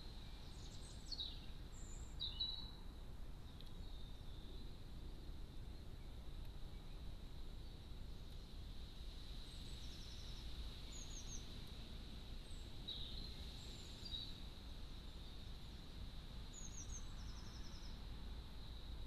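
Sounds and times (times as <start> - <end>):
songbird chirps and trills: 0.0 - 19.0.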